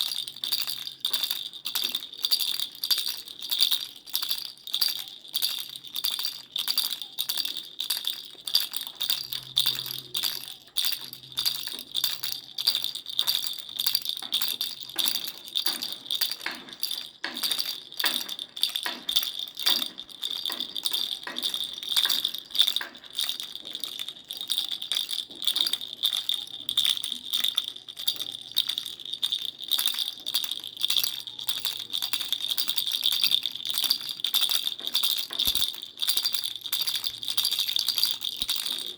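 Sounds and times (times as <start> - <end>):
baby rattle shaking: 0.0 - 38.9.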